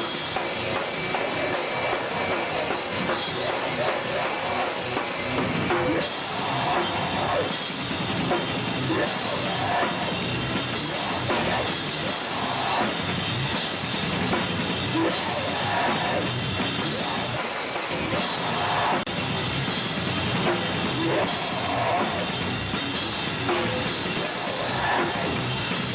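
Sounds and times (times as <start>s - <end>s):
drum kit: 0.0s - 25.9s
hardcore band playing live: 0.0s - 25.9s.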